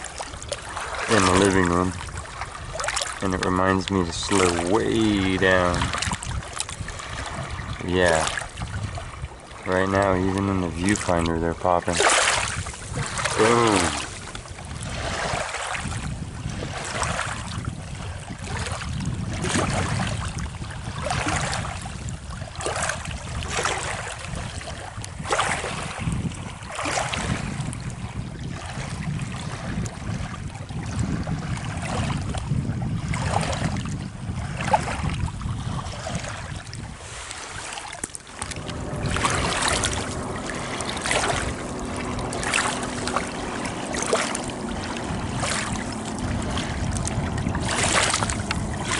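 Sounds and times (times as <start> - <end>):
waves lapping against rocks: 0.0 - 48.9
wind on microphone: 0.0 - 48.9.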